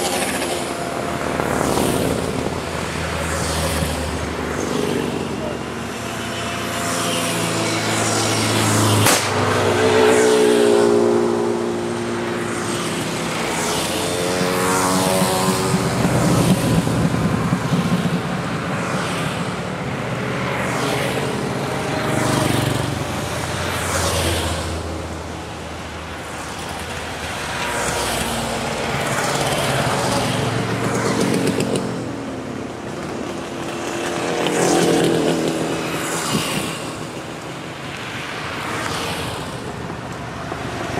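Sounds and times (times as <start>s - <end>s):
motorcycles riding past: 0.0s - 40.9s.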